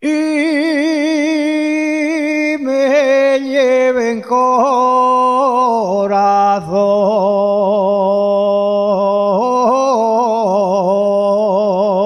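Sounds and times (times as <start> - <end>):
person singing ornamented long note: 0.0 - 12.0.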